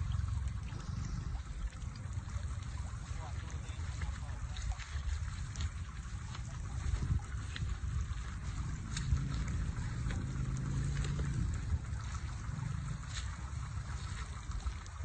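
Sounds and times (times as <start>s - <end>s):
steady low rumble: 0.0s - 15.0s
water trickling and lapping: 0.0s - 15.0s.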